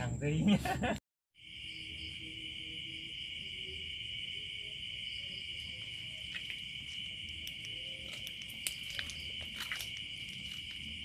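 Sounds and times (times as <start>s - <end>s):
high-pitched insect trill: 1.4s - 11.0s.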